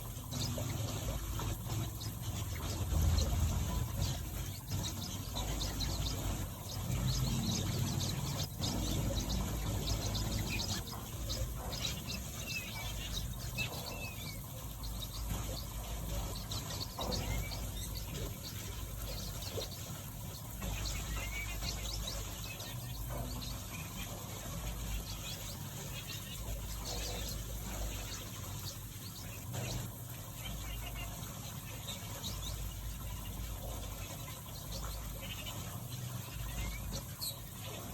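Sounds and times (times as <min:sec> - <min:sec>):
finches chirping and twittering: 0:00.0 - 0:37.9.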